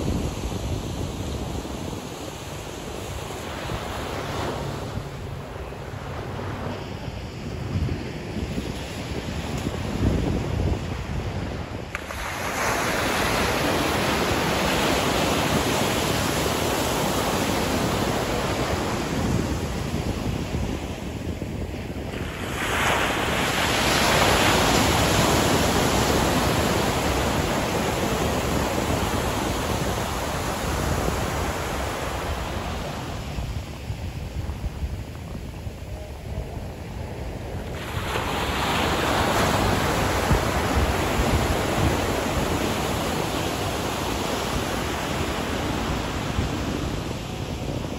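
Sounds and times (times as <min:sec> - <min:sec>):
ocean waves breaking on beach: 0:00.0 - 0:47.9.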